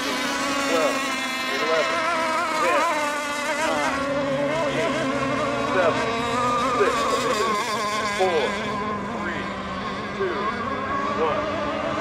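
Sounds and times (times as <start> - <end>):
racing boat motors whining: 0.0 - 12.0.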